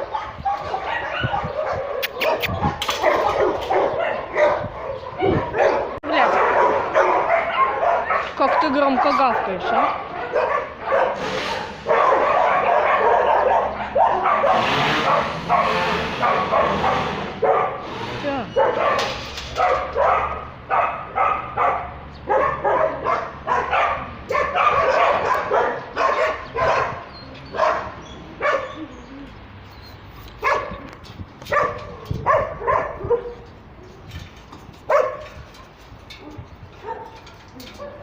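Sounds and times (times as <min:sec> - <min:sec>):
dogs barking: 0:00.0 - 0:29.3, 0:30.4 - 0:33.9, 0:34.8 - 0:35.5, 0:36.1 - 0:38.0.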